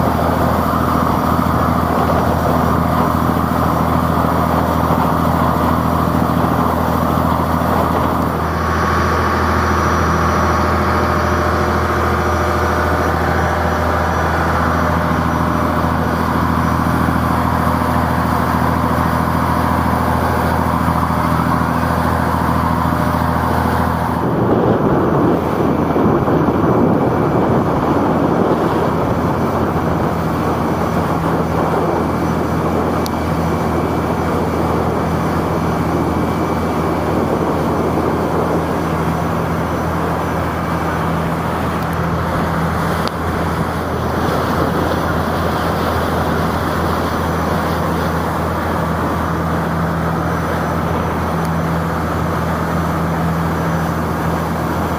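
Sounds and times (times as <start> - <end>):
boat engine humming: 0.0 - 54.9
water rushing: 0.0 - 54.9
wind: 0.0 - 54.9.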